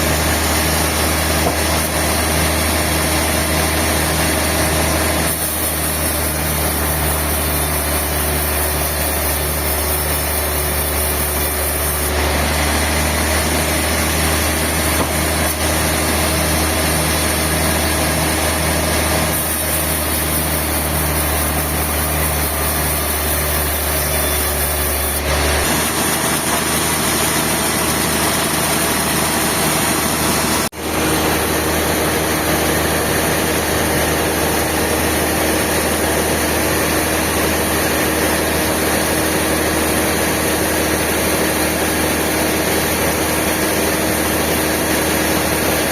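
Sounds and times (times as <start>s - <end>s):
sawmill machinery drone: 0.0s - 45.9s.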